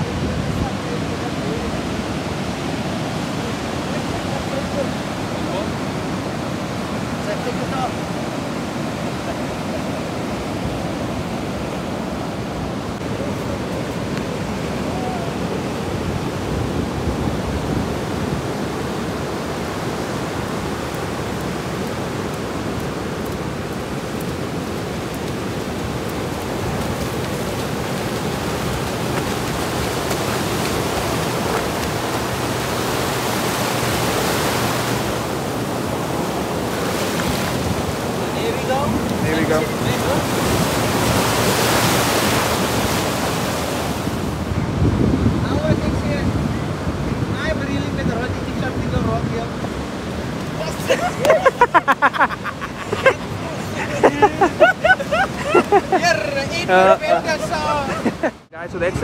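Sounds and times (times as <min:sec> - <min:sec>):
ocean surf washing up beach: 0:00.0 - 0:59.0.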